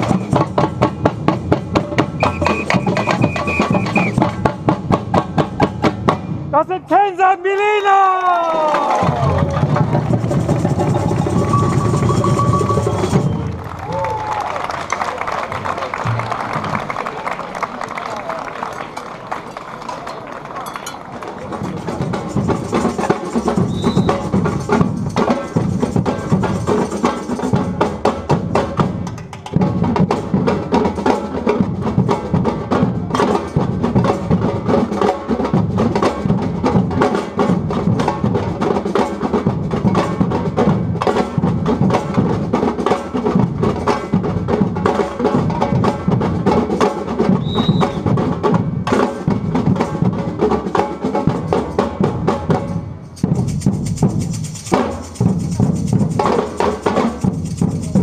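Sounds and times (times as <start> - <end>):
percussion band drumming: 0.0 - 17.3, 20.6 - 58.0.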